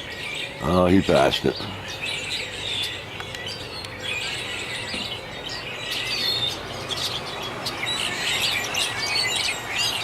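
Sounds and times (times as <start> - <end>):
flock of birds chirping: 0.0 - 10.0.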